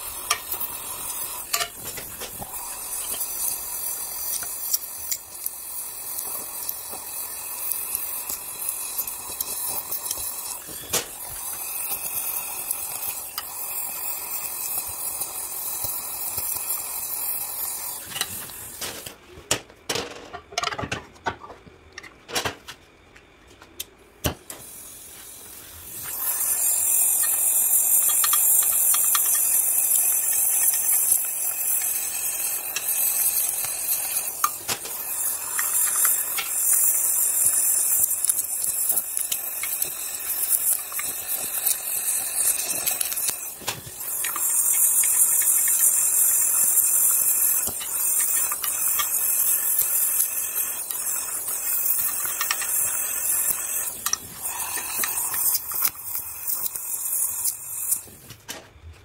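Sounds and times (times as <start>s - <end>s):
welding torch flame hissing: 0.0s - 19.2s, 24.2s - 58.4s.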